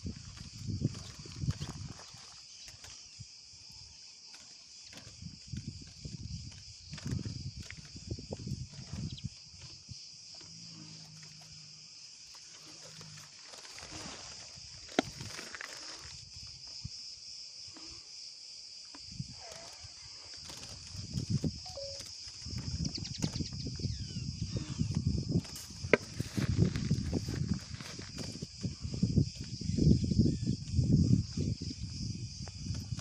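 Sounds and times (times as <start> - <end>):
low thumps and rustles: 0.0 - 3.0, 4.8 - 16.6, 20.4 - 23.9, 24.5 - 33.0
insects chirring: 0.0 - 33.0.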